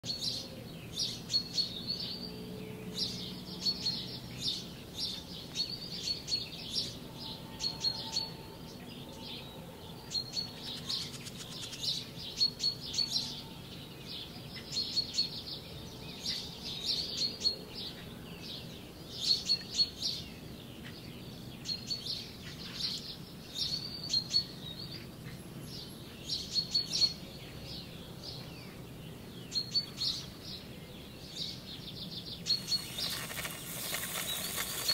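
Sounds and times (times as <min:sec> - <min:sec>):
small birds chirping and singing: 0:00.0 - 0:34.9.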